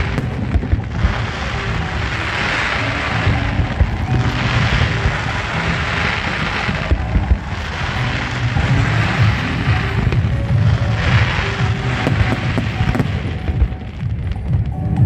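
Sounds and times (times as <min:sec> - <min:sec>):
fireworks crackling hiss: 0:00.0 - 0:15.0.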